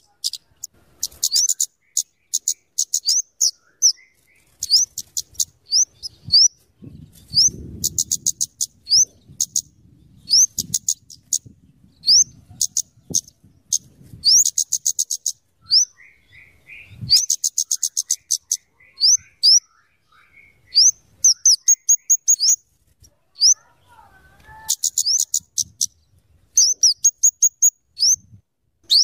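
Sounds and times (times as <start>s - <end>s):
bird ticking and chirping: 0.0s - 22.6s, 23.4s - 29.0s.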